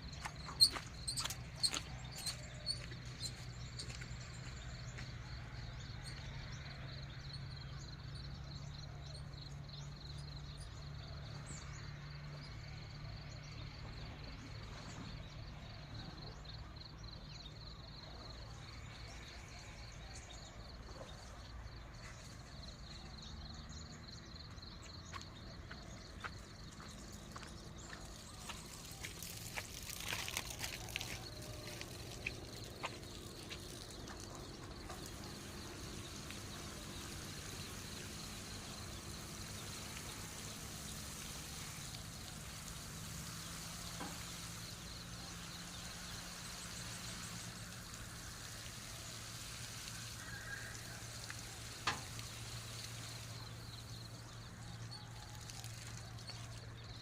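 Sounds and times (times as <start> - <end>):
water pouring and trickling: 0.0 - 57.0.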